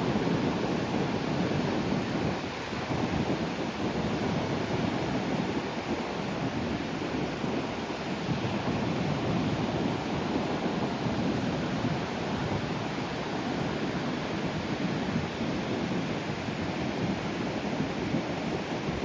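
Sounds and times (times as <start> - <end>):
sea surf washing onto shore: 0.0 - 19.0
wind buffeting microphone: 0.0 - 19.0.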